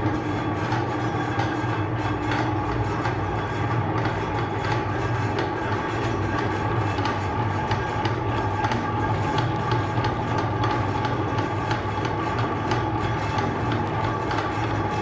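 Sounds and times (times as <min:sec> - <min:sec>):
meat grinder motor hum: 0:00.0 - 0:15.0.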